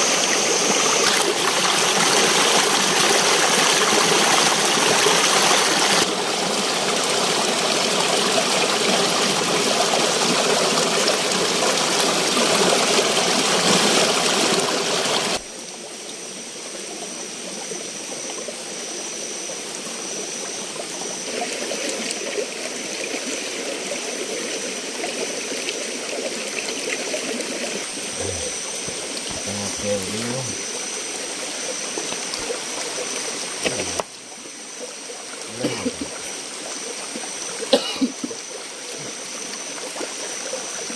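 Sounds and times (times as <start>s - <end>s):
forest stream rushing: 0.0s - 15.8s, 21.1s - 40.9s.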